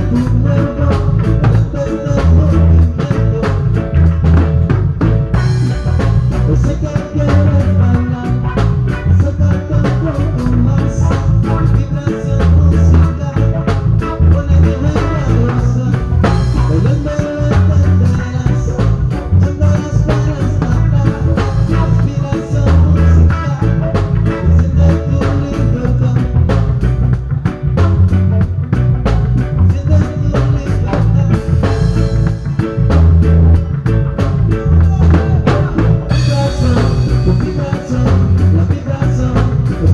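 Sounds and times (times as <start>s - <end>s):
live reggae band playing: 0.0s - 39.9s.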